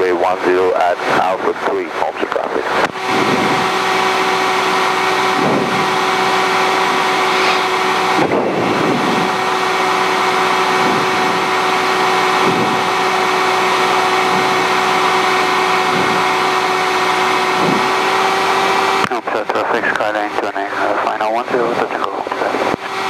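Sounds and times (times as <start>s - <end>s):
light aircraft engine drone: 0.0s - 23.0s.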